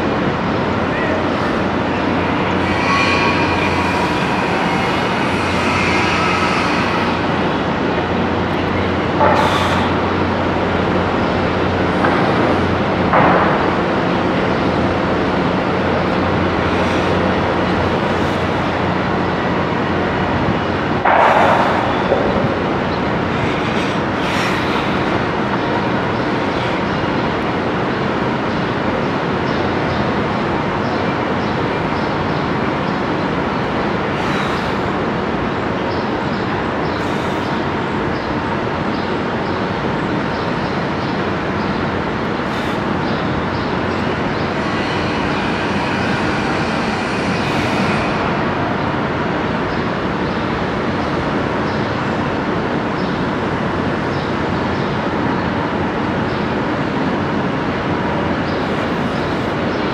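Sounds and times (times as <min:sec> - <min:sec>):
engines and traffic drone: 0:00.0 - 0:59.9.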